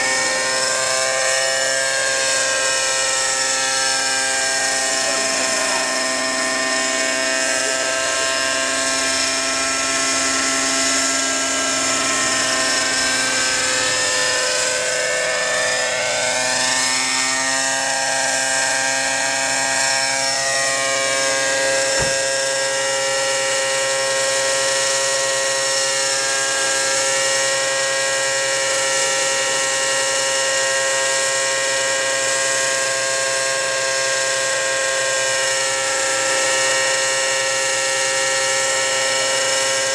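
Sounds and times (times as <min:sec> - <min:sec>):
model helicopter engine whine: 0:00.0 - 0:39.9.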